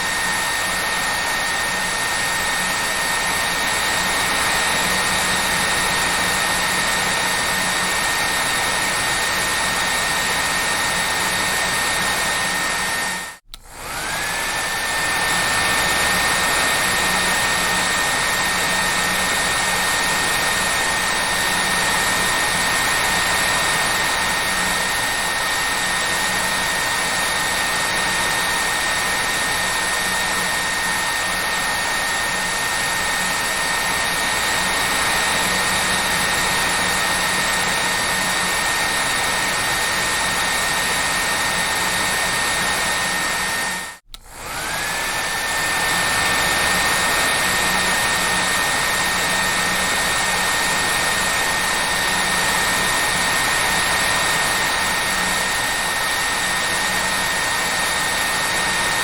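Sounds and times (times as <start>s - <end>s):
hair dryer whining: 0.0s - 59.0s.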